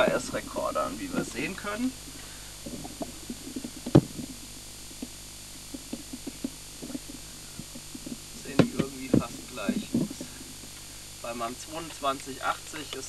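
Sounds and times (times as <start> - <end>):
low hum: 0.0 - 13.0
tape hiss: 0.0 - 13.0.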